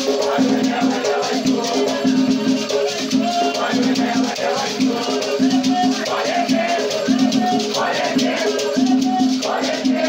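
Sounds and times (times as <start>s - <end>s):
chanted singing: 0.0s - 10.0s
shakers rattling: 0.0s - 10.0s.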